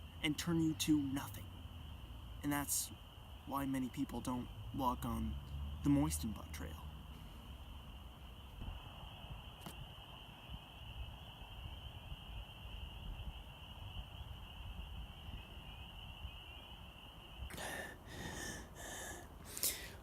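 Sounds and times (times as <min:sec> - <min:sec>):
rustle: 0:00.0 - 0:20.0.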